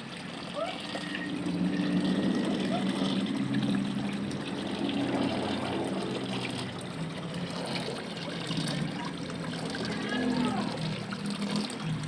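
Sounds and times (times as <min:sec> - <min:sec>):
waterfall splashing into pond: 0:00.0 - 0:12.0.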